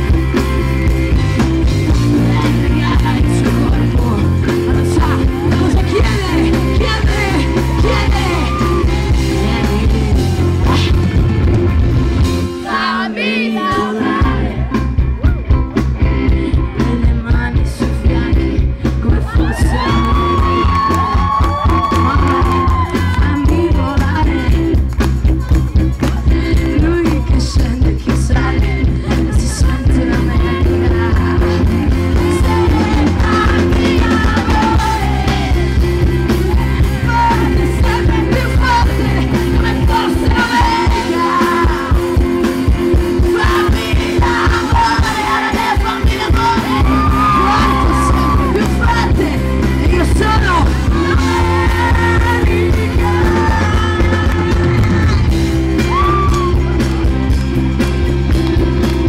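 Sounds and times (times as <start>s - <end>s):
lead singer: 0.0s - 57.4s
live rock band playing: 0.0s - 59.0s.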